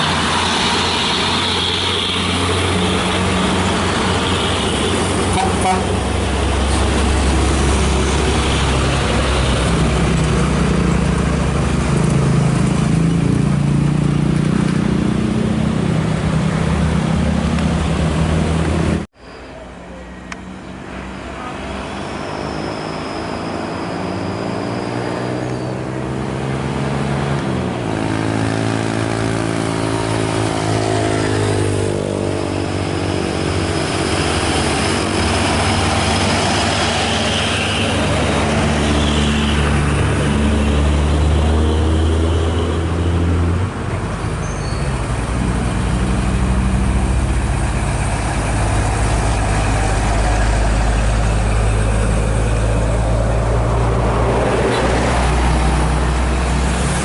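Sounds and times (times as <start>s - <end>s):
diesel truck engines under load: 0.0s - 57.0s.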